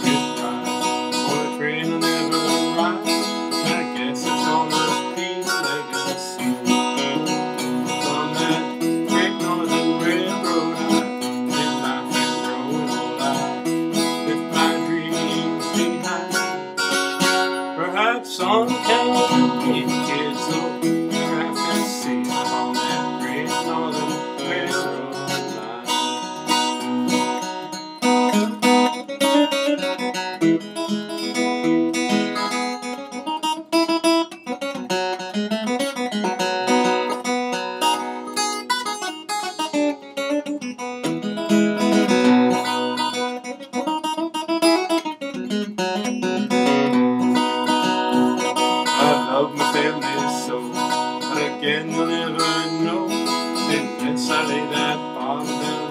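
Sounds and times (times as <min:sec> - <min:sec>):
acoustic guitar picking: 0:00.0 - 0:55.9.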